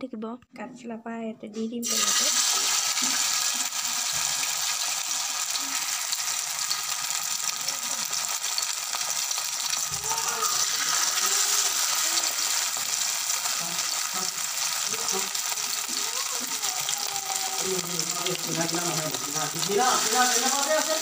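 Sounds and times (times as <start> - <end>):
mushrooms sizzling in hot oil: 1.8 - 21.0.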